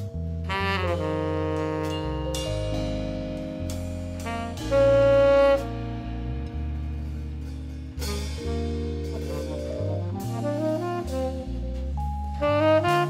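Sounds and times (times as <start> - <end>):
tenor saxophone: 0.0 - 7.1, 8.0 - 13.0
drums: 0.0 - 13.0
electric bass guitar: 0.0 - 13.0
piano: 0.0 - 13.0.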